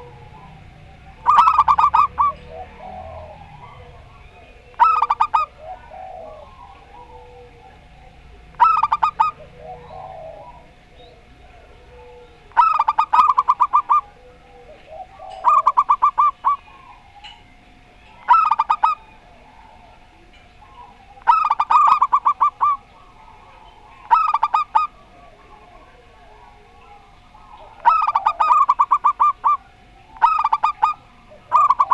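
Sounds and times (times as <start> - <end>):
doves cooing: 0.0 - 31.9.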